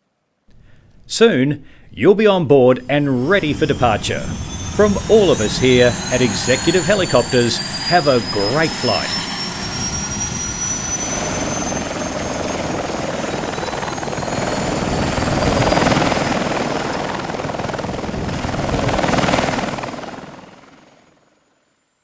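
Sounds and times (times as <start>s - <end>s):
faint high whine: 0.5s - 20.6s
helicopter rotor and engine: 2.6s - 21.7s.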